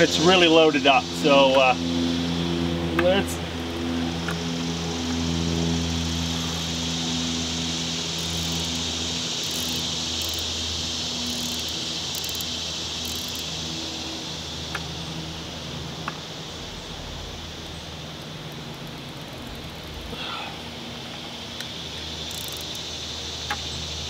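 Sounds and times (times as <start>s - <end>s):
insect chorus: 0.0s - 24.0s
low engine hum: 0.0s - 24.0s.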